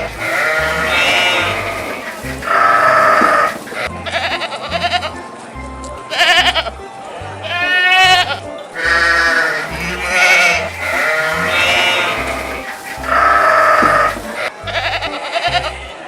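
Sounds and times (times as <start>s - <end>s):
livestock bleating: 0.0s - 5.2s, 7.4s - 15.7s
background music with low beat: 0.0s - 16.0s.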